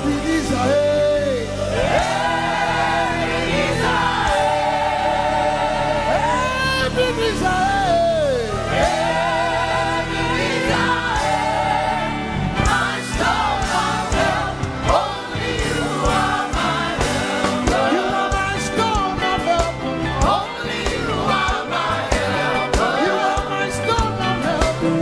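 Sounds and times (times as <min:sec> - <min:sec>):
band playing: 0:00.0 - 0:25.0
choir singing: 0:00.0 - 0:25.0.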